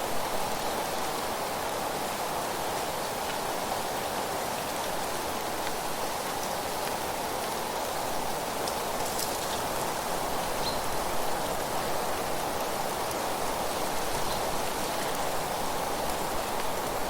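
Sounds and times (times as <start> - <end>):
wind rustling leaves: 0.0 - 17.0.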